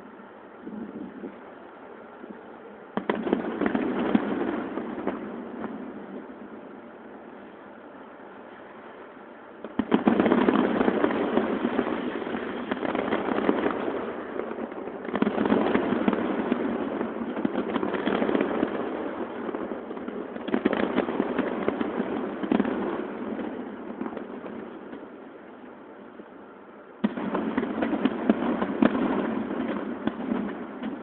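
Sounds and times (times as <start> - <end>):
fireworks bangs and crackles: 2.9 - 7.6, 9.6 - 26.3, 27.0 - 31.0.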